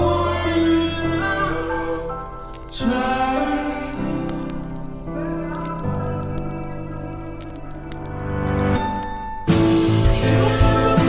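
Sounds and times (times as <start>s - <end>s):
slowed reverb-heavy pop song: 0.0s - 11.0s.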